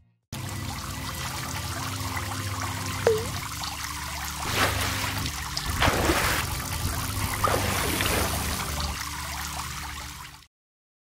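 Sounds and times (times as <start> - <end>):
water splashing and trickling: 0.4 - 10.5.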